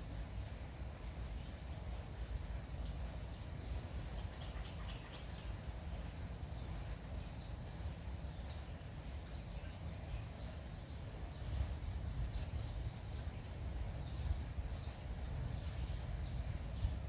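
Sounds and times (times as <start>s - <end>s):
drip-like ticks: 0.0s - 17.0s
light rain falling: 0.0s - 17.0s.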